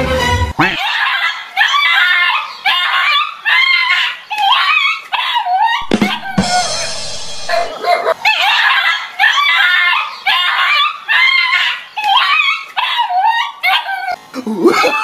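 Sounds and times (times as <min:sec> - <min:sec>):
dog barking and yelping: 0:00.8 - 0:14.2.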